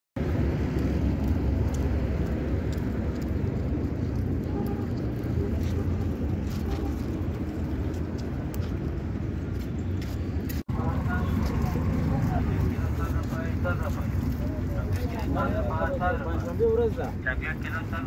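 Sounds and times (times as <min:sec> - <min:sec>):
traffic rumble: 0:00.2 - 0:18.0.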